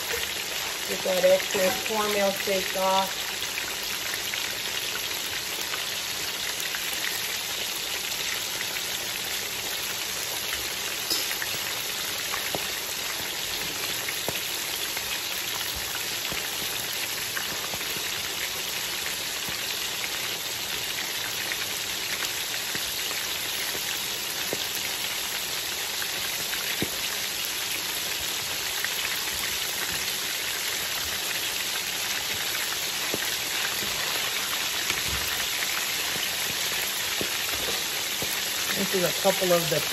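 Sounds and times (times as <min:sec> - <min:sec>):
fish deep-frying in oil: 0:00.0 - 0:39.9
oil popping and crackling: 0:00.0 - 0:39.9.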